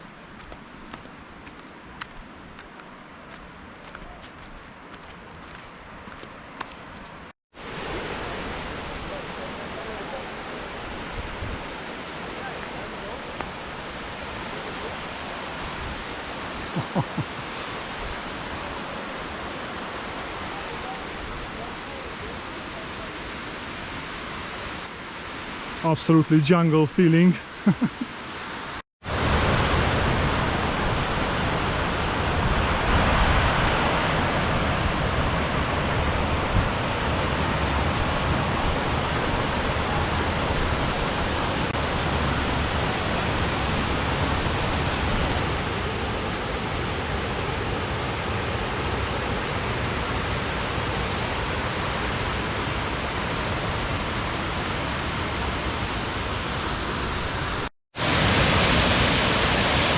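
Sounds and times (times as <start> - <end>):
waterfall rushing and splashing: 7.6 - 59.9.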